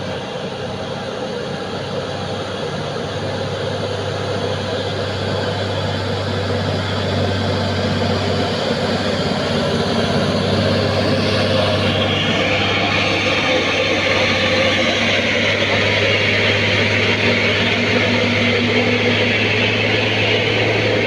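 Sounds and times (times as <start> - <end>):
truck engine running under load: 0.0 - 21.0.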